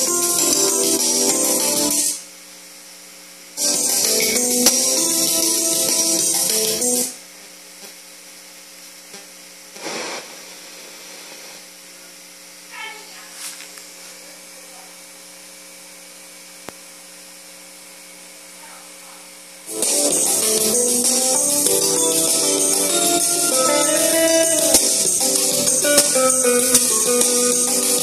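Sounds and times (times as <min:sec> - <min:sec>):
low hiss: 0:00.0 - 0:14.9, 0:16.2 - 0:28.0
electrical hum with held tones: 0:00.0 - 0:28.0.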